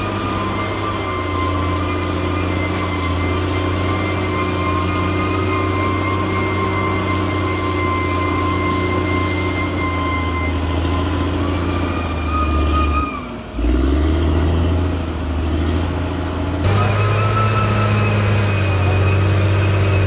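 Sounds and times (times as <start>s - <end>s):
bulldozer diesel engine running: 0.0s - 20.0s
steel tracks squealing: 0.0s - 20.0s.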